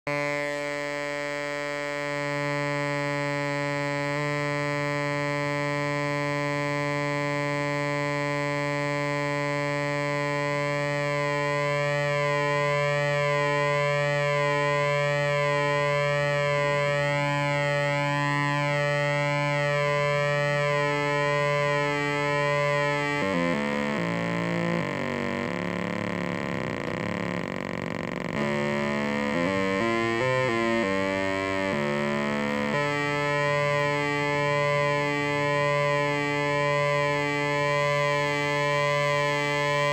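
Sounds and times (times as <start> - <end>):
buzzy synthesizer drone: 0.1 - 39.9.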